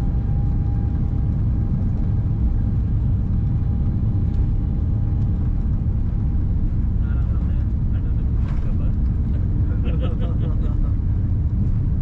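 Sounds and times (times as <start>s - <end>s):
jet engines at take-off power: 0.0s - 12.0s
landing gear rumbling on runway: 0.0s - 12.0s.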